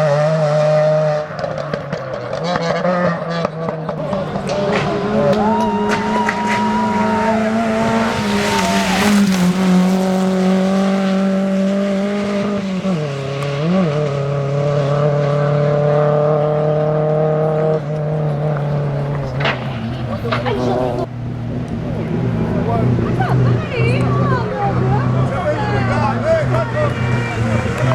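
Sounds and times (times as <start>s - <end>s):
rally car engine: 0.0s - 27.9s.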